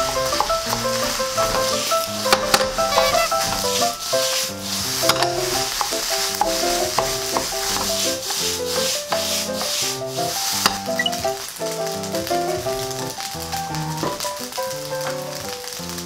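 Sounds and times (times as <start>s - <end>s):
rice sizzling in a frying pan: 0.0s - 16.0s.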